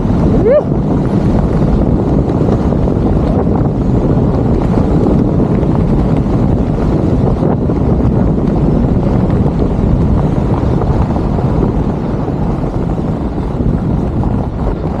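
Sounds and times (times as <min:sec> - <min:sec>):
skis running over snow: 0:00.0 - 0:15.0
wind buffeting microphone: 0:00.0 - 0:15.0.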